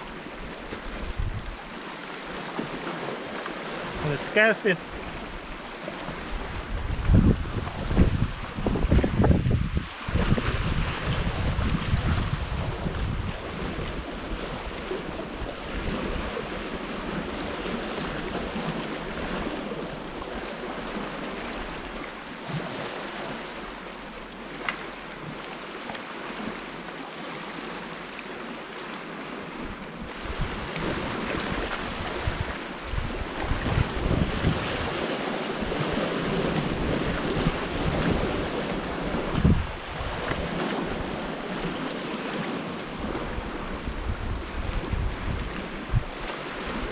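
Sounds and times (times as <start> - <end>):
wind on microphone: 0.0 - 1.8, 4.9 - 23.4, 29.6 - 46.9
waves splashing on rocks: 0.0 - 14.1, 14.8 - 46.9.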